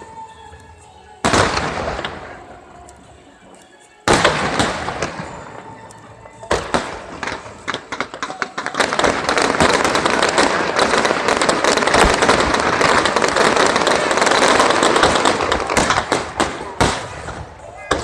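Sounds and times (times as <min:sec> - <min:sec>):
dense fireworks crackle: 0:00.0 - 0:18.0
fireworks bang: 0:01.2 - 0:02.4, 0:04.1 - 0:18.0
fireworks pops: 0:03.6 - 0:18.0.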